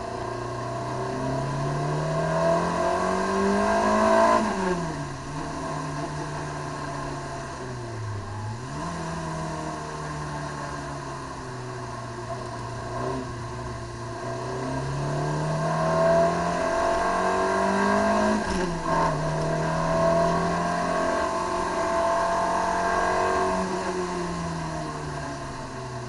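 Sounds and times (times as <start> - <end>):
car engine revving under load: 0.0 - 26.0.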